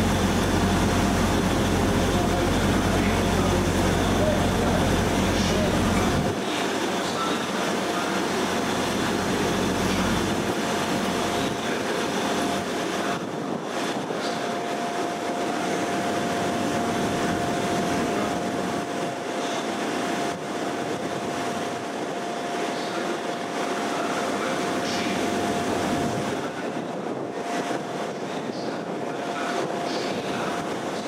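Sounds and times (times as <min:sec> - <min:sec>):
diesel railcar engine rumble: 0:00.0 - 0:31.0
train arriving: 0:00.0 - 0:31.0.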